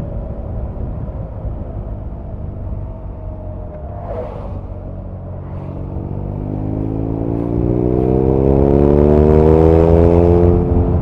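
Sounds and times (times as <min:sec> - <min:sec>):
wind noise: 0:00.0 - 0:11.0
motorcycle engine accelerating: 0:01.9 - 0:11.0.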